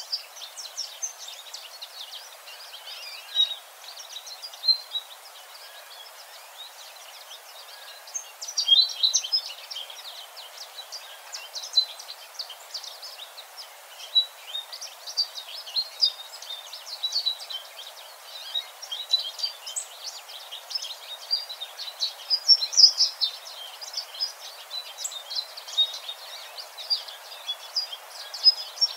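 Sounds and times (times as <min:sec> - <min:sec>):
bird chirping: 0:00.0 - 0:28.9
faint steady hiss: 0:00.0 - 0:28.9.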